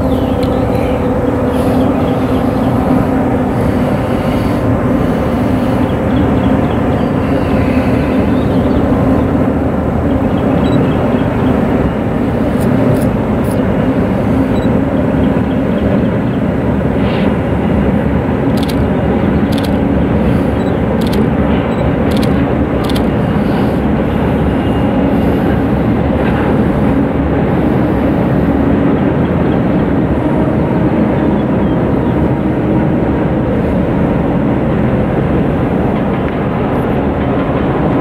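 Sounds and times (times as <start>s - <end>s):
locomotive engine drone: 0.0s - 38.0s.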